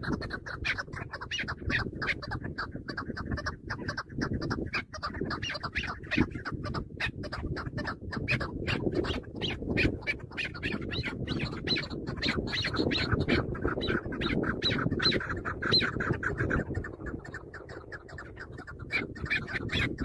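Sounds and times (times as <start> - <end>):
partridge harsh chucking calls: 0.0 - 20.0.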